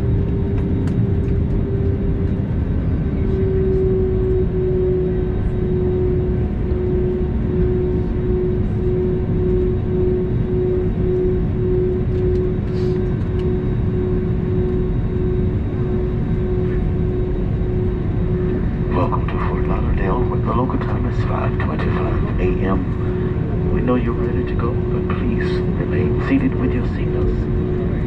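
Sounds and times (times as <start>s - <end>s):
aircraft cabin engine rumble: 0.0s - 28.0s
pulsing hum: 0.0s - 28.0s.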